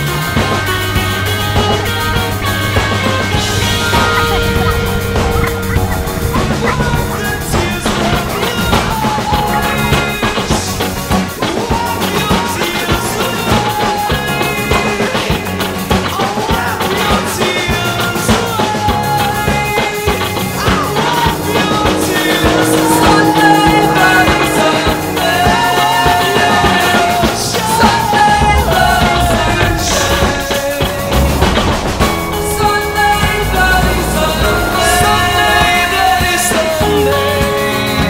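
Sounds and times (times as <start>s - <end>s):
drums: 0.0s - 38.0s
person singing: 0.0s - 38.0s
rock song: 0.0s - 38.0s.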